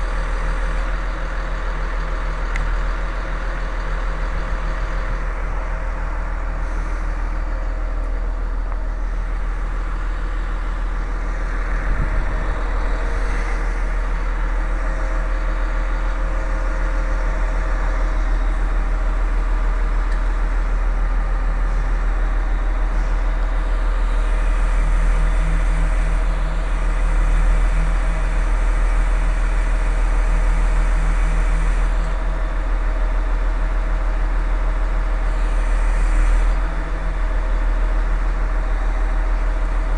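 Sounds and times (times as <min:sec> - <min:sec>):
large engine idling: 0:00.0 - 0:39.9.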